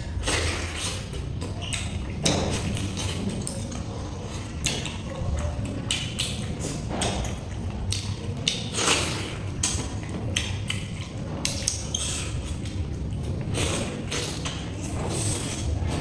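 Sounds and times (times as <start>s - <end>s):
chewing and lip smacks: 0.2s - 14.7s.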